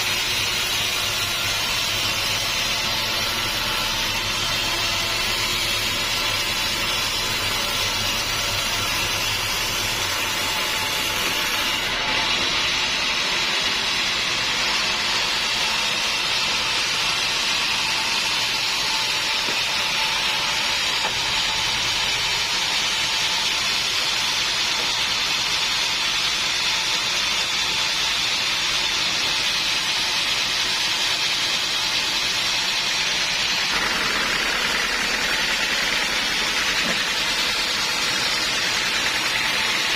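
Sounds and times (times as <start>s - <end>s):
saw hissing through wood: 0.0s - 39.9s.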